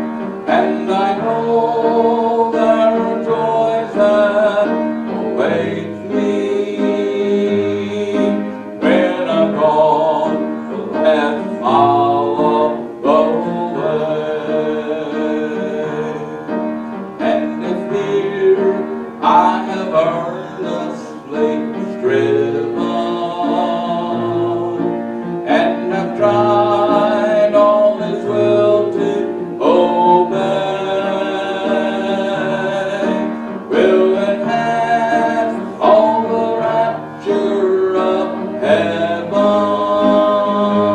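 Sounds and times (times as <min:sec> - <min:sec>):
congregation singing a hymn: 0:00.0 - 0:40.9
piano accompaniment: 0:00.0 - 0:40.9.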